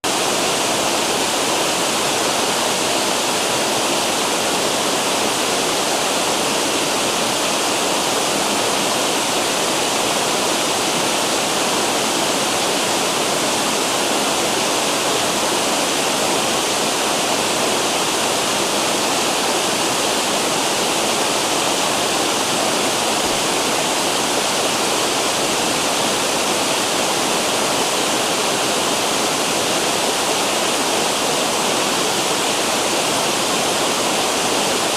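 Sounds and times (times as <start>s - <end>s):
water rushing over waterfalls: 0.0s - 34.9s.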